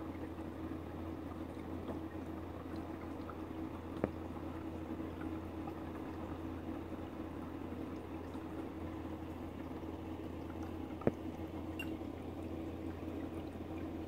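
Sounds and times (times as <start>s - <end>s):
faint liquid bubbling: 0.0s - 14.0s
steady low hum: 0.0s - 14.0s.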